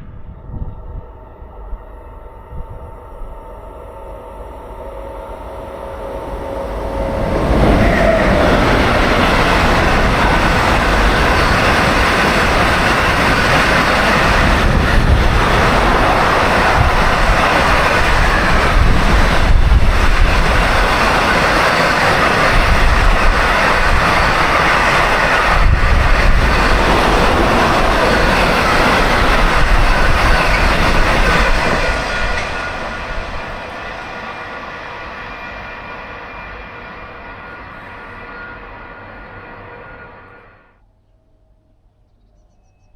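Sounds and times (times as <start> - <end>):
train passing on rails: 0.0 - 40.9.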